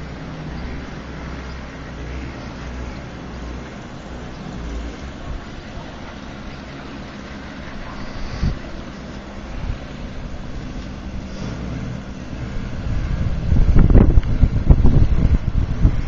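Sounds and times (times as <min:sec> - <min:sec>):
steady low rumble: 0:00.0 - 0:16.0
wind buffeting microphone: 0:00.0 - 0:16.0.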